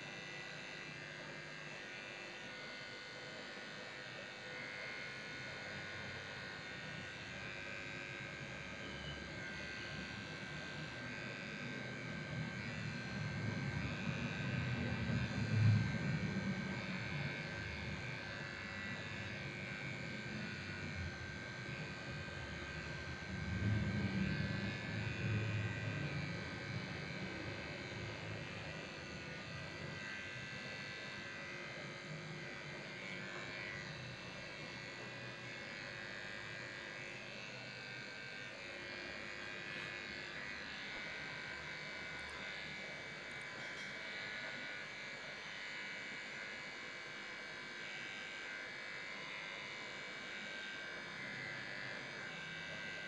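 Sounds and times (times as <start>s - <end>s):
electric clippers buzzing: 0.0s - 53.0s.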